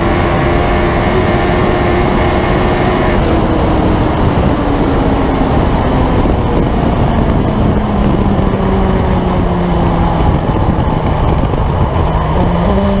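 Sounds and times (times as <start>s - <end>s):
motorcycle engine running: 0.0s - 13.0s
wind rush: 0.0s - 13.0s.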